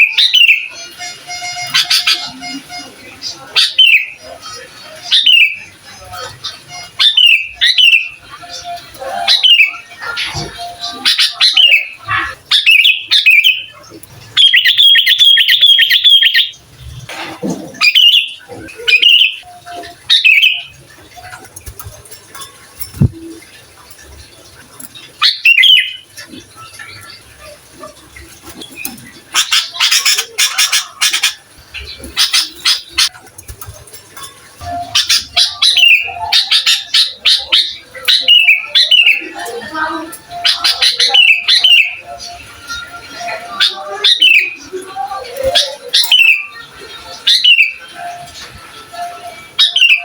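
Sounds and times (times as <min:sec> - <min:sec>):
bird singing: 0:00.0 - 0:16.8, 0:17.6 - 0:50.0.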